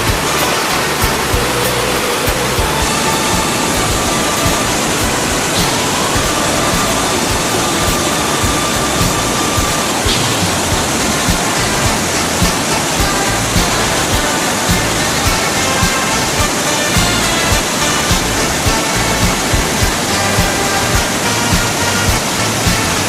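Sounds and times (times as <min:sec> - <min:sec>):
faint music: 0:00.0 - 0:23.0
waterfall rushing: 0:00.0 - 0:23.0.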